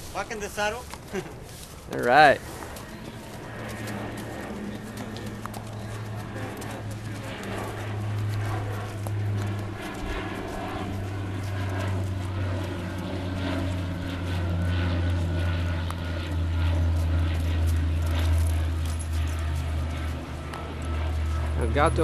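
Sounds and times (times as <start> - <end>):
horse hooves walking on dirt: 0.0 - 22.0
low engine drone: 0.0 - 22.0.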